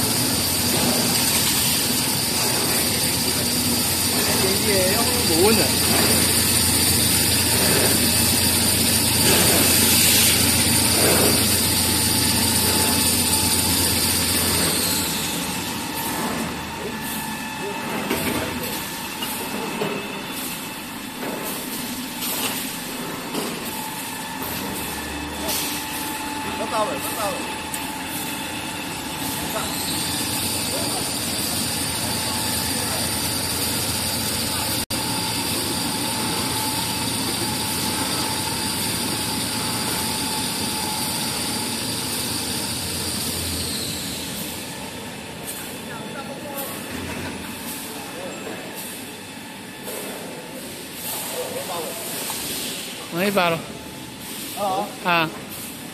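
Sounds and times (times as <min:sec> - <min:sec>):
machine drone with whine: 0:00.0 - 0:50.5.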